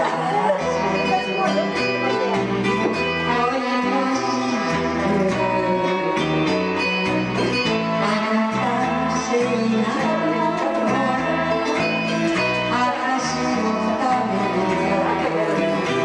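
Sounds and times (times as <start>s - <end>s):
woman singing into a microphone: 0.0s - 1.8s, 3.2s - 6.5s, 7.9s - 16.0s
recorded backing track: 0.0s - 16.0s.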